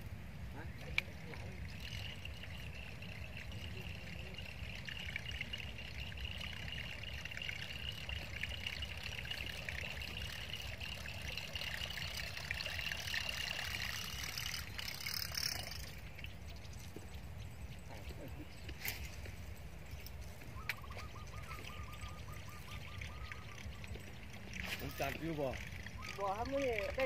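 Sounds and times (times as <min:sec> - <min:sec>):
fishing lure churning water: 0:01.1 - 0:17.1, 0:18.7 - 0:27.0.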